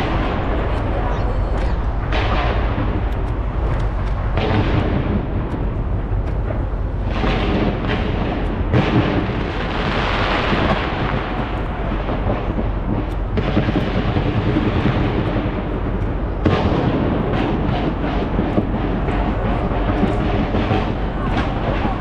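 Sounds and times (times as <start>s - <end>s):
fireworks booming and crackling: 0.0s - 22.0s.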